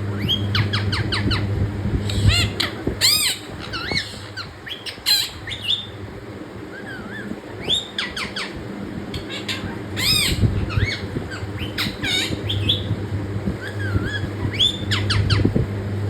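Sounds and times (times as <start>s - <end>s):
parrot squawking and chirping: 0.1s - 6.0s, 6.7s - 12.9s, 13.6s - 15.5s.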